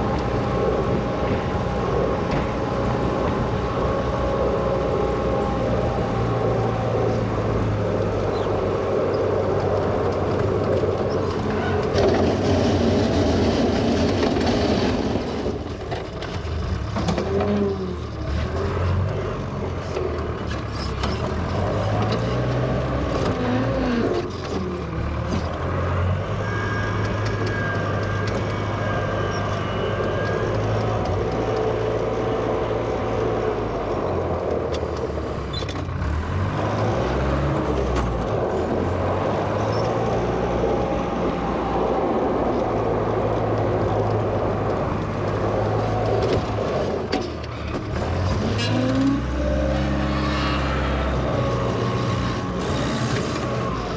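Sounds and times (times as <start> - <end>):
wheel loader engine running: 0.0 - 53.9.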